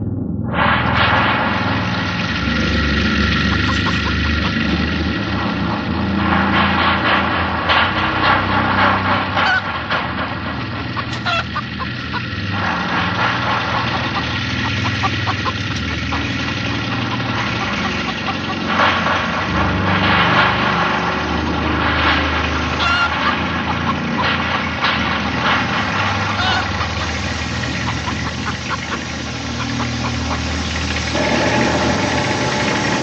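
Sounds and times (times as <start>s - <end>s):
engine running loudly: 0.0s - 33.0s.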